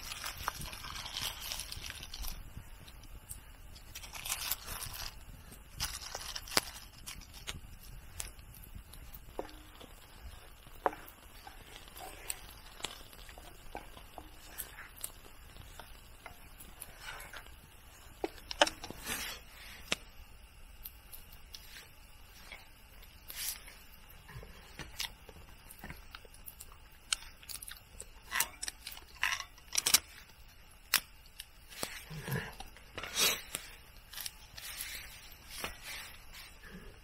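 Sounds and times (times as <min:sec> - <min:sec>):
food clicks and crackles: 0:00.0 - 0:36.6.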